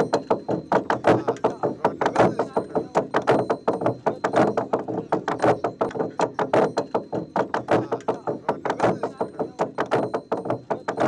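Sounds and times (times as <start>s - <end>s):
sharp knocking: 0.0s - 11.0s.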